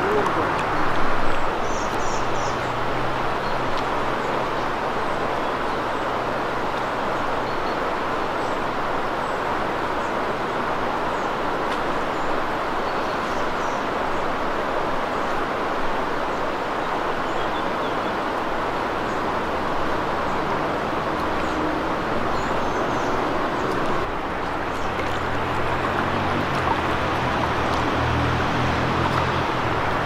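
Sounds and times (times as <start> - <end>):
river water rushing over rapids: 0.0 - 30.0.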